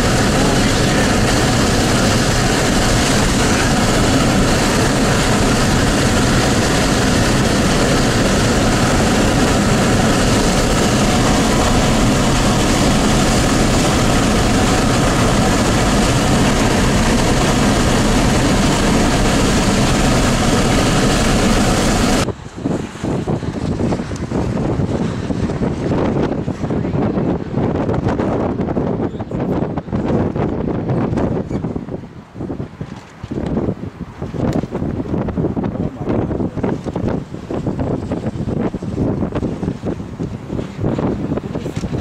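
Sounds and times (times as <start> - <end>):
vehicle road and engine noise: 0.0 - 42.0
wind buffeting microphone: 0.0 - 42.0.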